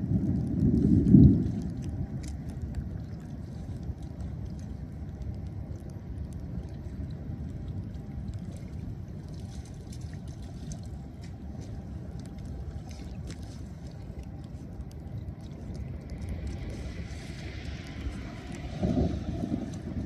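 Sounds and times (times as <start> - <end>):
steady low rumble: 0.0 - 20.0
splashing in shallow water: 0.3 - 20.0.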